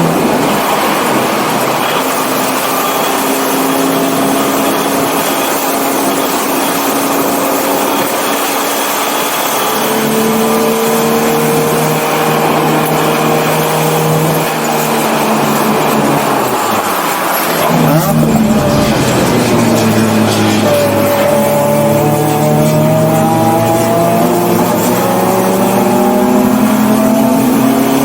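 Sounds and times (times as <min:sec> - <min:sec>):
car engine running hard: 0:00.0 - 0:28.0
wind and road noise: 0:00.0 - 0:28.0.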